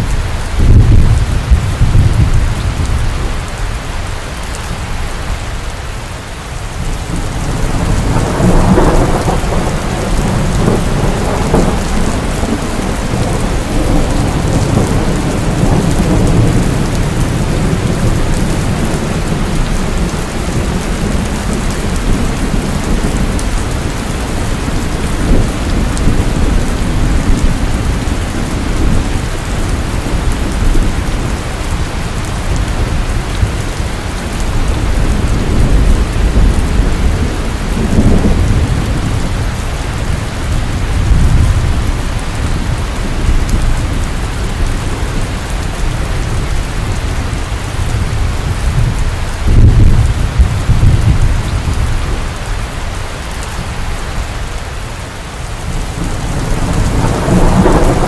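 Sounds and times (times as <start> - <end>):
thunder rumble: 0.0 - 3.5, 6.8 - 54.4, 55.4 - 58.0
heavy rain: 0.0 - 58.0.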